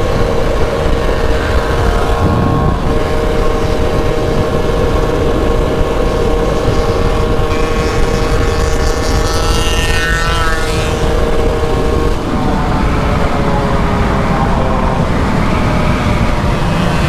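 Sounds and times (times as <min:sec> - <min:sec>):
higher engine whine: 0:00.0 - 0:17.0
moped engine running: 0:00.0 - 0:17.0
wind and road rumble: 0:00.0 - 0:17.0.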